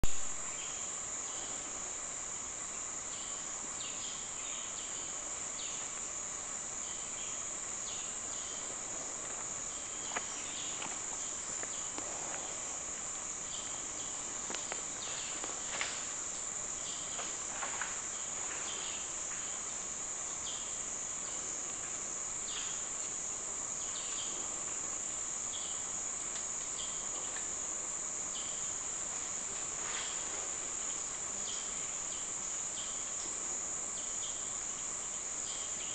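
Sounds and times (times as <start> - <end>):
high-pitched insect drone: 0.1 - 35.9.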